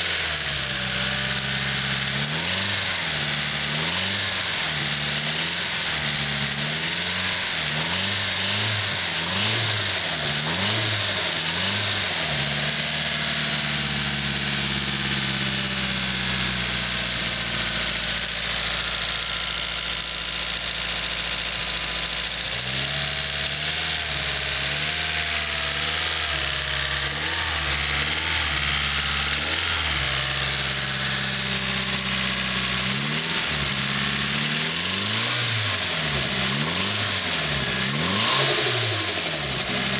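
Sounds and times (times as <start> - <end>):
engine idling: 0.0 - 39.9
engine revving: 0.0 - 39.9.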